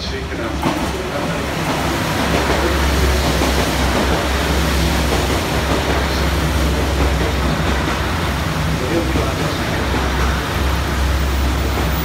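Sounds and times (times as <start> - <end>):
diesel train engine hum: 0.0 - 12.0.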